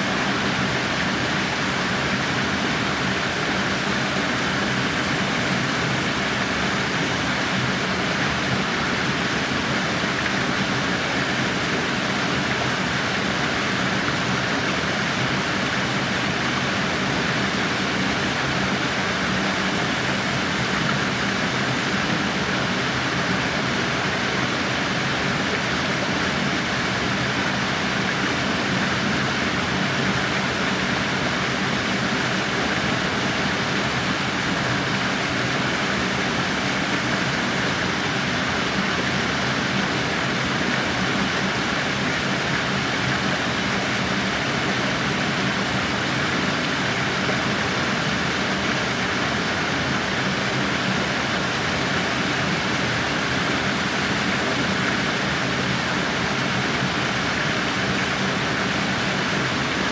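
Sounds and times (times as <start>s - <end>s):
waterfall splashing over rocks: 0.0s - 59.9s.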